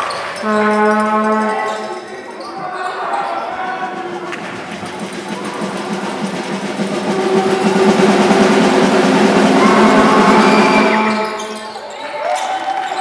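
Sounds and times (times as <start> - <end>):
spectator crowd noise: 0.0 - 13.0.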